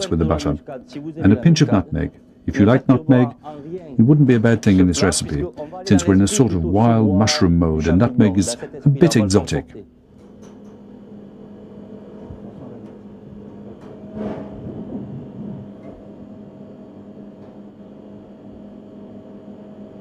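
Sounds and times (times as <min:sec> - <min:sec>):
ventilation hum: 0:00.0 - 0:20.0.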